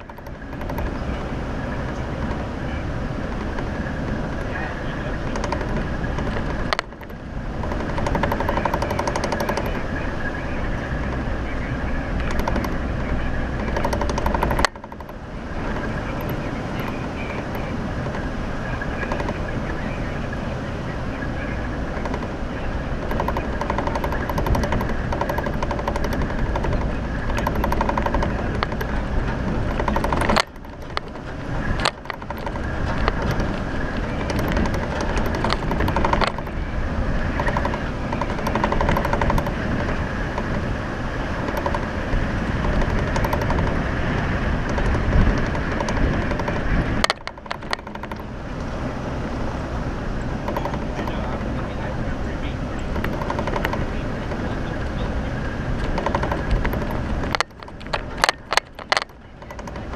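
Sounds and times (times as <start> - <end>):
car engine running: 0.0 - 59.9
rapid rattling and knocking: 0.0 - 59.9.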